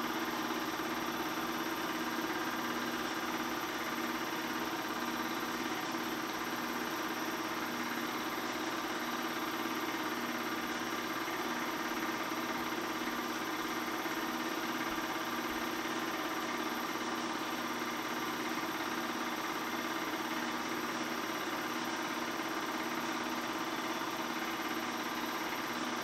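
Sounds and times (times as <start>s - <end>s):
film projector whirring: 0.0s - 26.0s.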